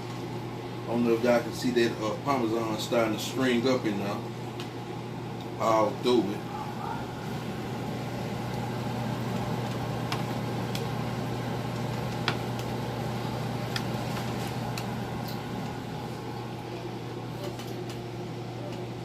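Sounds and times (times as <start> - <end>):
appliance fan humming: 0.0 - 19.0.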